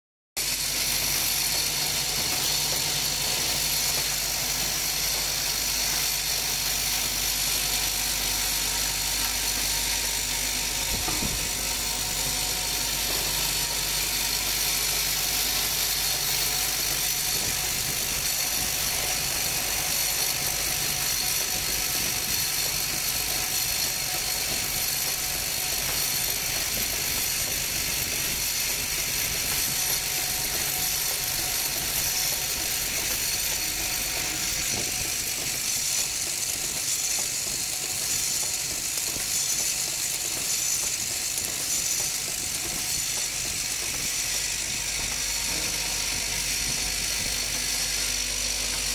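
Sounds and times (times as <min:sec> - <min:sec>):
machine whirring and humming: 0:00.4 - 0:48.9.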